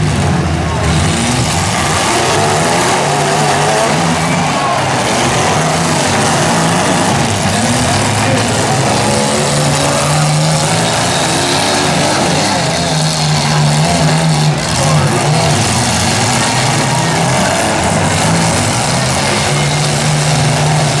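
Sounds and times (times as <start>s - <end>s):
car engines revving hard: 0.0s - 21.0s.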